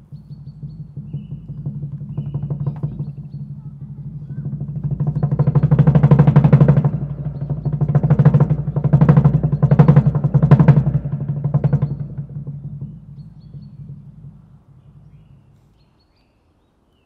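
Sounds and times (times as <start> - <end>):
fast drum roll: 0.0 - 15.6
low ringing: 0.0 - 15.8.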